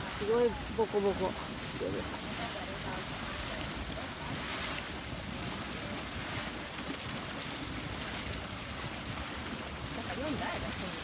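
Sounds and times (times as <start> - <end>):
mud pool churning: 0.0 - 11.0.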